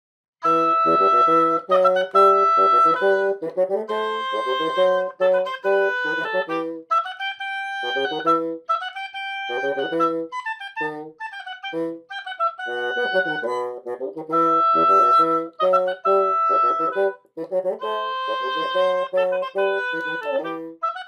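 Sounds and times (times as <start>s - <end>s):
bassoon bass line: 0.4s - 21.0s
oboe melody: 0.4s - 21.0s.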